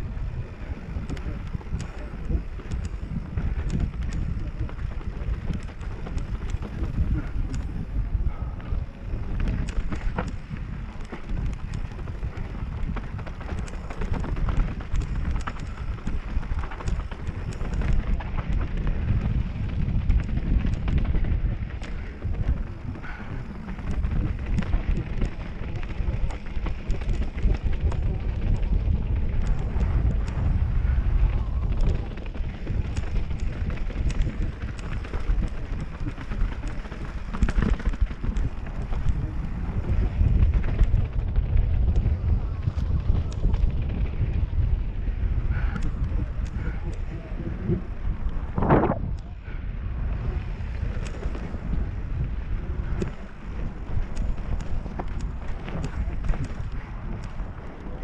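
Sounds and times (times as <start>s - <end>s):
bike clicks and rattles: 0.0s - 58.0s
bike tyres rolling on dirt trail: 0.0s - 58.0s
wind buffeting microphone: 0.0s - 58.0s.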